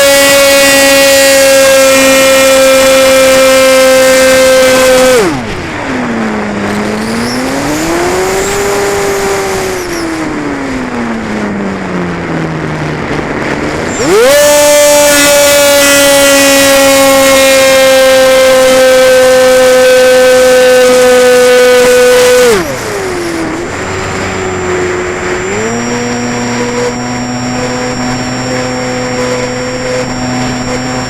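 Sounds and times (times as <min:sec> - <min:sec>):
model airplane motor whine: 0:00.0 - 0:10.6, 0:13.0 - 0:31.0
rushing wind: 0:00.0 - 0:31.0.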